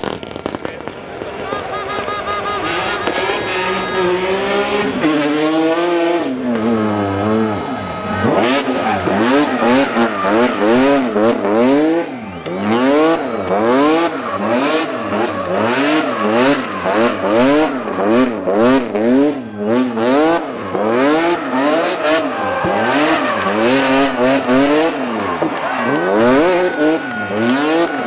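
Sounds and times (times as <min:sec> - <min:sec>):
rally car engine revving: 0:01.3 - 0:28.0.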